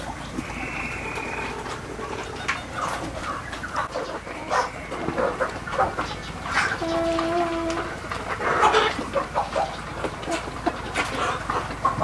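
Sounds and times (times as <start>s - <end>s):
chickens clucking and calling: 0.0s - 12.0s.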